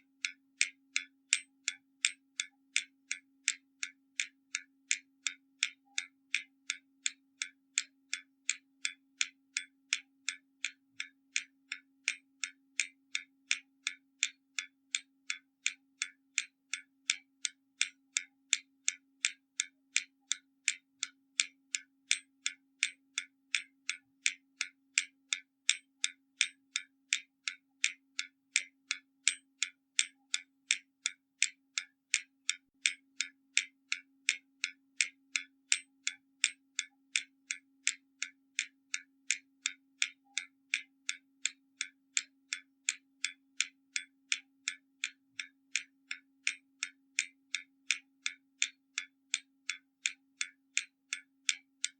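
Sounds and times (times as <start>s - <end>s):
clock ticking: 0.0s - 51.9s.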